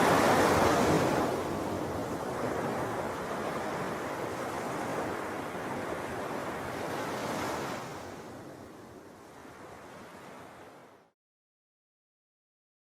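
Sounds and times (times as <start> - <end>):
sea waves washing on shore: 0.0 - 11.0.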